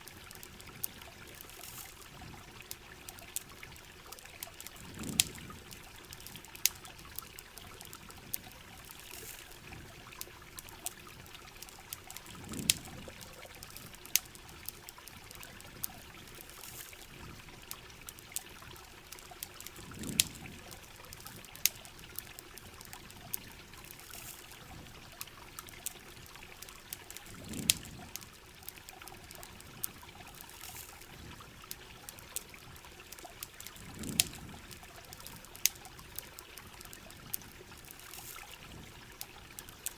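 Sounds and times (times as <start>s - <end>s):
campfire crackling and popping: 0.0s - 39.9s
steady rain: 0.0s - 39.9s
trickling water: 0.0s - 39.9s.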